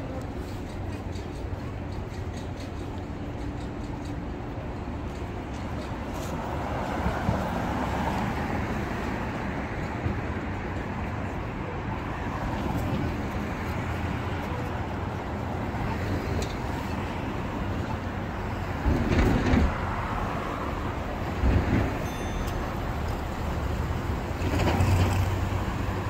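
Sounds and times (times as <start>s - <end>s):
traffic hum: 0.0s - 26.0s.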